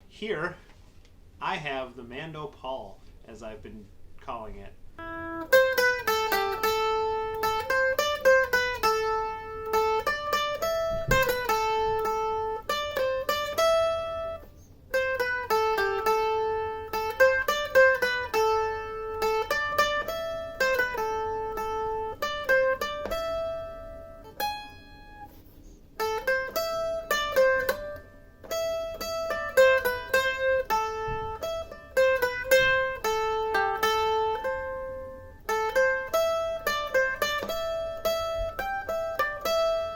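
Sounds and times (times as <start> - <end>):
mandolin picked melody: 1.7 - 39.9.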